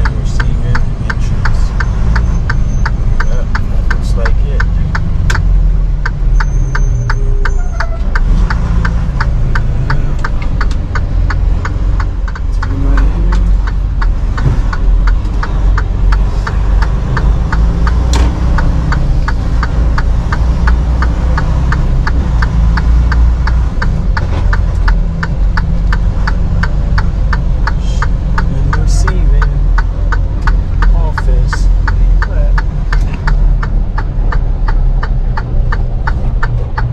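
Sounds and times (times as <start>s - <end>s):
regular ticking: 0.0s - 36.9s
truck engine and road rumble: 0.0s - 36.9s.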